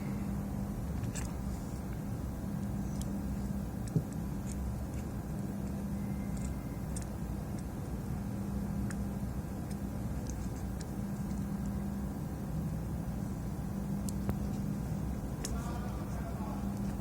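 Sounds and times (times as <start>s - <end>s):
equipment low hum: 0.0s - 17.0s.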